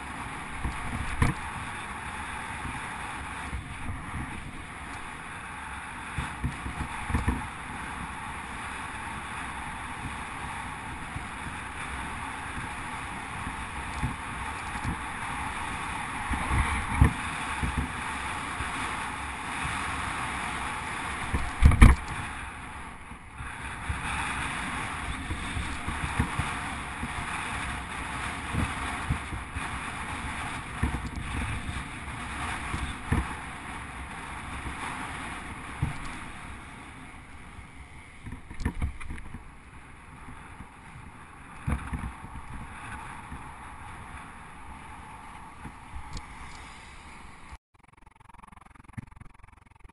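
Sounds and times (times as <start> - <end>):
wind and tyre noise: 0.0 - 49.9
bicycle thumping over bumps: 0.1 - 5.2, 6.0 - 37.6, 38.2 - 44.7.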